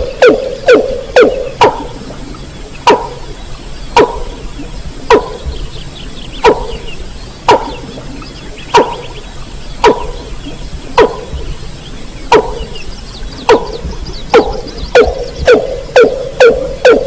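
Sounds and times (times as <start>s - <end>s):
rail bird call: 0.0s - 17.0s.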